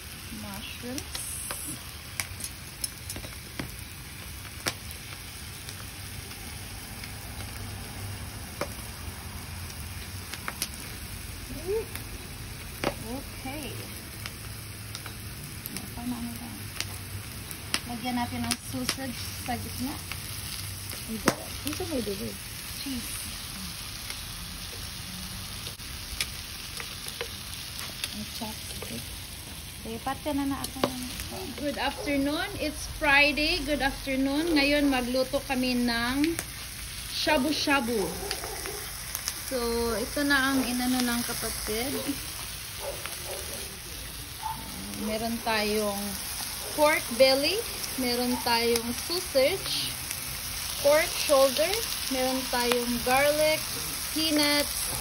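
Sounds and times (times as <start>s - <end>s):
meat sizzling on grill pan: 0.0s - 55.0s.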